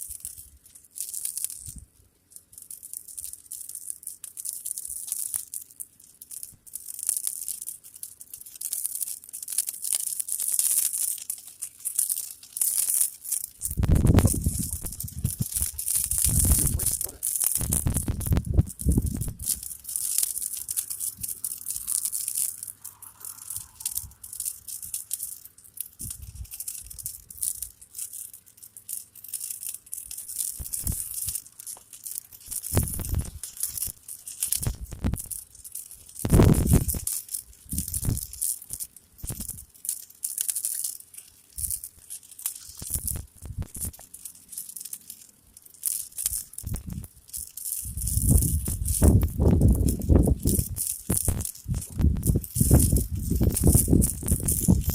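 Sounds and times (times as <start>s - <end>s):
burning matches crackling: 0.0s - 54.9s.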